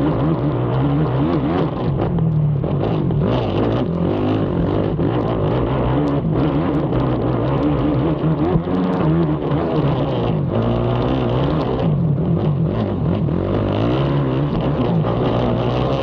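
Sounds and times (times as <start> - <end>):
atv engine revving: 0.0 - 16.0.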